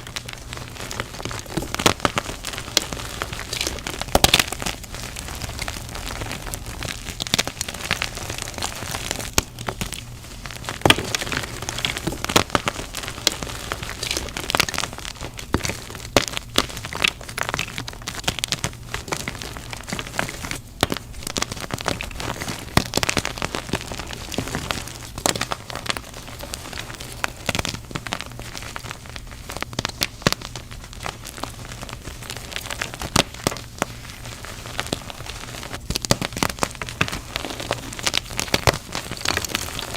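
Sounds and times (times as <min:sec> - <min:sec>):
chalk being crushed: 0:00.0 - 0:39.9.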